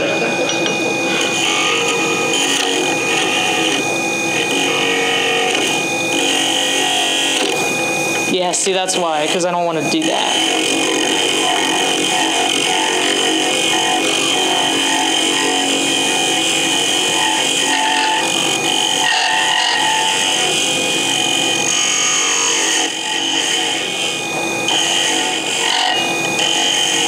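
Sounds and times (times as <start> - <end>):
lathe motor running: 0.0 - 27.0
turning tool cutting wood: 0.0 - 27.0.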